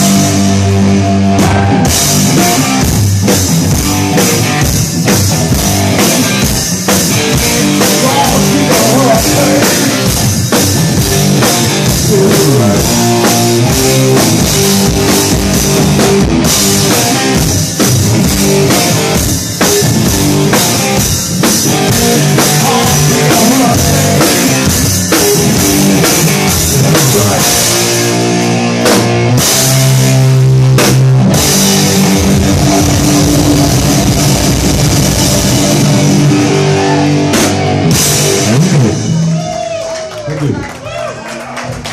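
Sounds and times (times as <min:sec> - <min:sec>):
drum kit with cymbals: 0:00.0 - 0:39.5
loud electric guitar: 0:00.0 - 0:40.9.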